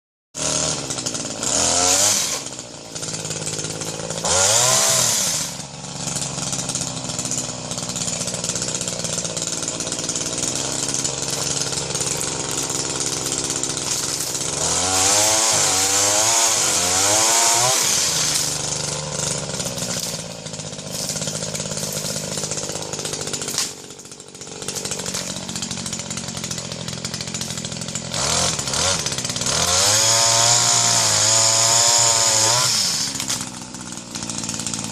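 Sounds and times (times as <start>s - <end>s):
chainsaw engine idling and revving: 0.4s - 34.9s.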